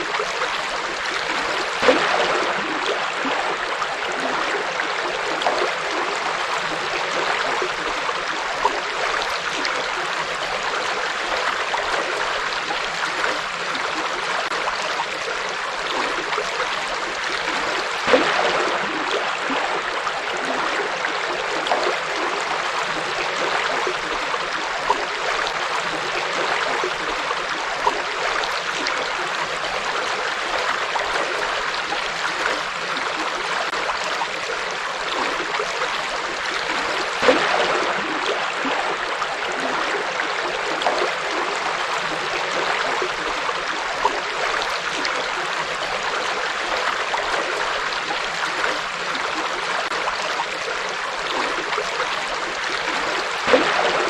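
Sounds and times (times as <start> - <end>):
river water flowing and splashing: 0.0 - 54.0.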